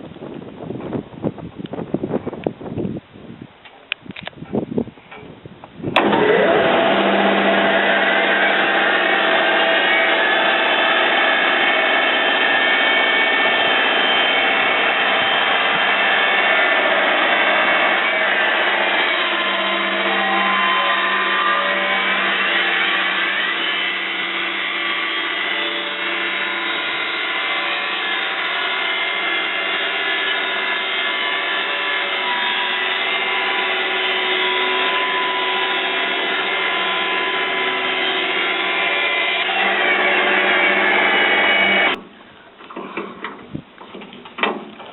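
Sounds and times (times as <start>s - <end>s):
band sawmill cutting log: 5.9s - 42.1s.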